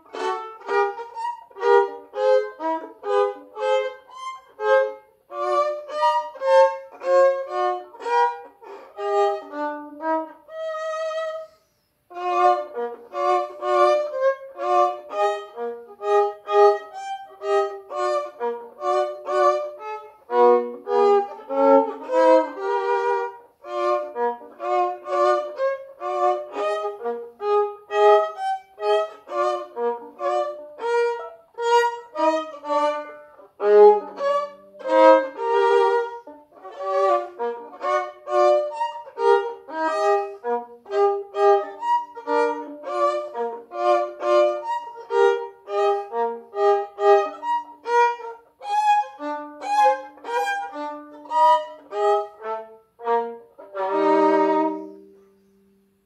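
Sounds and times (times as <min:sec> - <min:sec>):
solo violin melody: 0:00.0 - 0:56.0.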